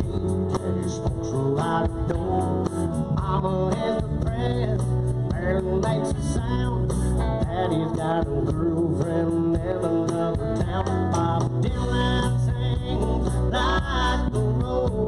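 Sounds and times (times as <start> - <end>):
electric guitar: 0.0 - 15.0
live band playing: 0.0 - 15.0.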